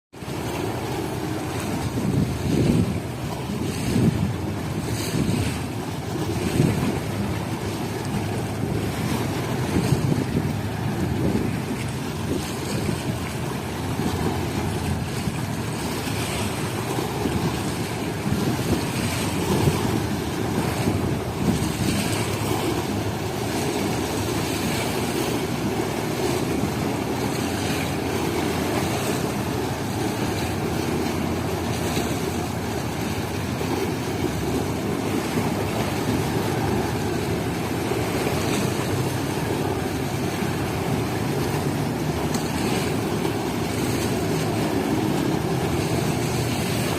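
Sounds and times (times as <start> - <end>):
low water rumble: 0.1 - 46.9
waves splashing and slapping: 0.1 - 46.9
wind buffeting microphone: 0.2 - 46.9.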